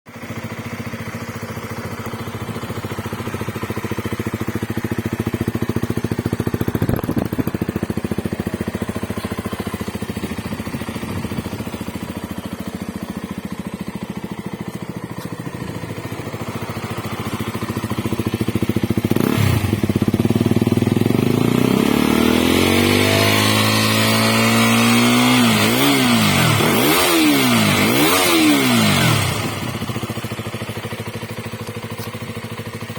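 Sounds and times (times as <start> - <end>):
motorcycle engine idling and revving: 0.1 - 32.9.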